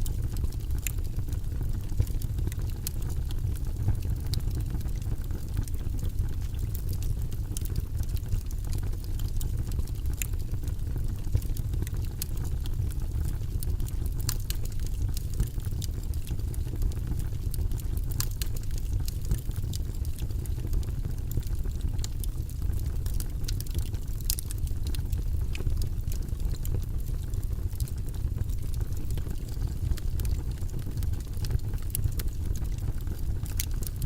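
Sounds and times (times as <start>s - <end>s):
faint irregular clicks: 1.8s - 10.5s, 11.1s - 34.0s.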